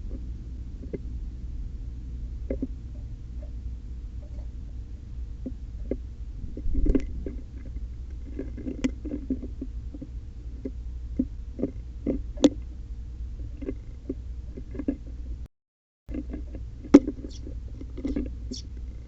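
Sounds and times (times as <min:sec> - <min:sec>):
steady low rumble: 0:00.0 - 0:15.5, 0:16.1 - 0:19.0.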